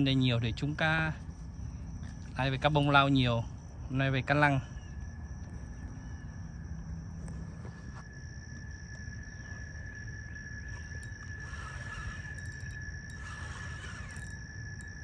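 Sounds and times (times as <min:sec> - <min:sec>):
high-pitched insect drone: 0:00.0 - 0:15.0
low outdoor rumble: 0:00.0 - 0:15.0.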